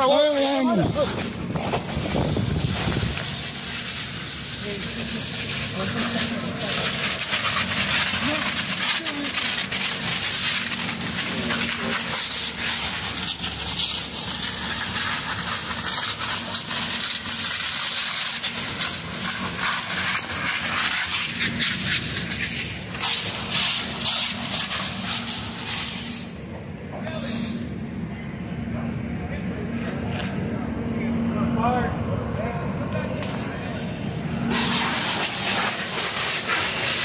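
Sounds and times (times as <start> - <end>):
large fire crackling and hissing: 0.0 - 31.4, 32.1 - 37.0.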